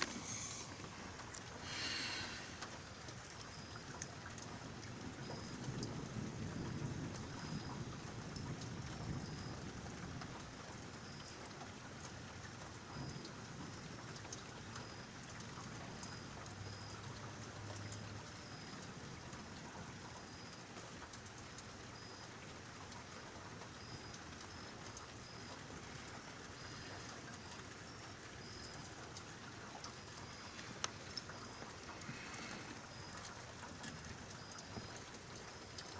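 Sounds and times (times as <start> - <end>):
steady rain: 0.0 - 35.9.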